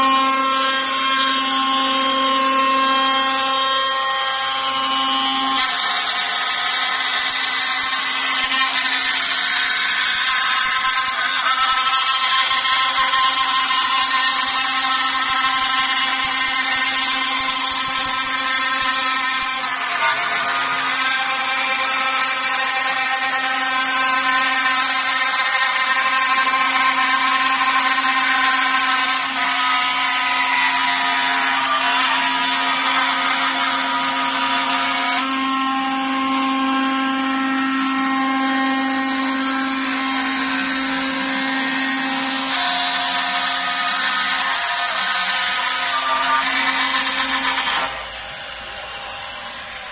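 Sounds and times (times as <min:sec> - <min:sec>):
cnc router spindle whine: 0:00.0 - 0:49.9.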